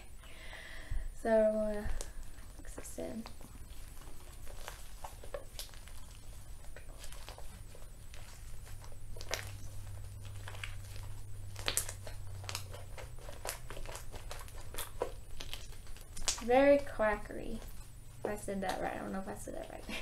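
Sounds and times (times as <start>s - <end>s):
slime crackling and popping: 1.6s - 20.0s.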